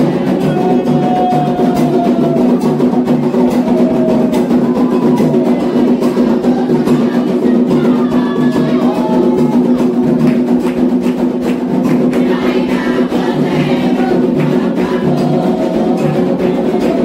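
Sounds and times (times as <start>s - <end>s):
hand drums rhythm: 0.0s - 17.0s
voices singing a chant: 0.0s - 17.0s.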